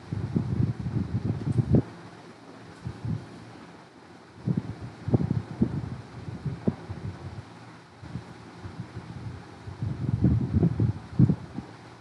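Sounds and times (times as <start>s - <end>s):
wind buffeting microphone: 0.0s - 2.1s, 2.7s - 3.6s, 4.4s - 12.0s.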